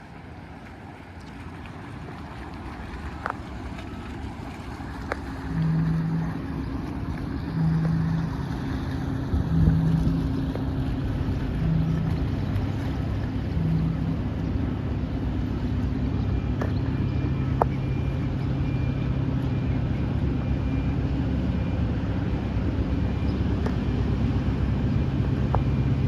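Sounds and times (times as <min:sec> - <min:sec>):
boat diesel engine rumbling: 0:00.0 - 0:26.0
low pulsing tone: 0:04.7 - 0:26.0.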